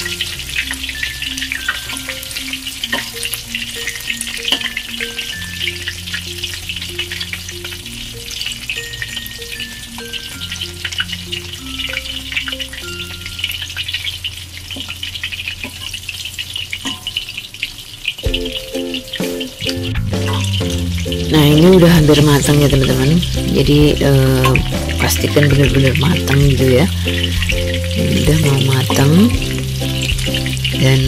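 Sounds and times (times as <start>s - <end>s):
oil crackling and sizzling: 0.0s - 31.0s.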